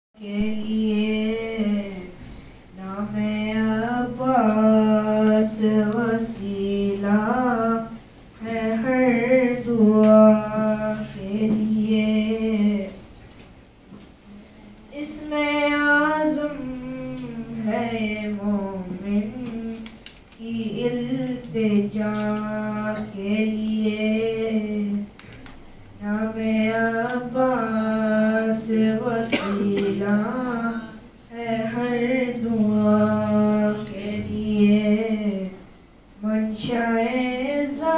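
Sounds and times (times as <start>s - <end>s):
boy chanting into a microphone: 0.2s - 13.2s, 14.3s - 37.9s.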